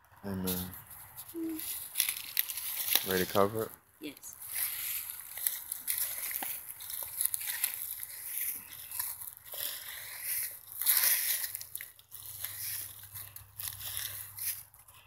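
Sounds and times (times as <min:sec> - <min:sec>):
dry leaves and soil crunching: 0:00.3 - 0:15.0.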